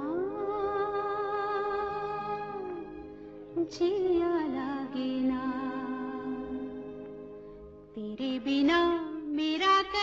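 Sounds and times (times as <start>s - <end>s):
soft sustained accompaniment: 0.0s - 10.0s.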